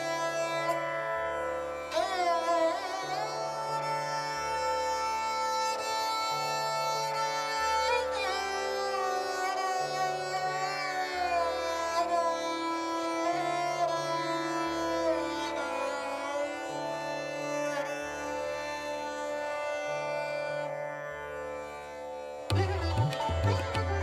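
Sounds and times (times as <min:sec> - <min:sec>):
string instrument melody: 0:00.0 - 0:24.0.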